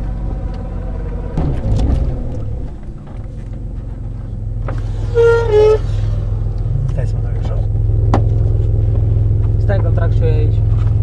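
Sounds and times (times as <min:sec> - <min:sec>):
engine running at low speed: 0:00.0 - 0:11.0.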